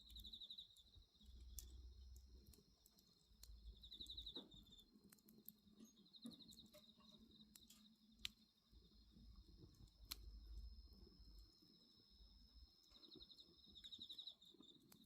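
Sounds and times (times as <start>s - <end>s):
burning wood popping: 0.0s - 11.6s, 12.6s - 15.0s
bonfire crackling: 0.0s - 15.0s
crickets trilling: 0.0s - 15.0s.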